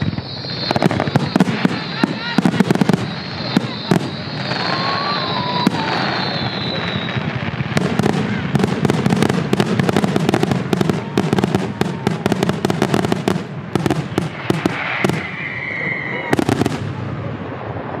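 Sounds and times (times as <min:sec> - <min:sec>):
firework whistling: 0:00.0 - 0:18.0
fireworks cracks and bangs: 0:00.0 - 0:18.0.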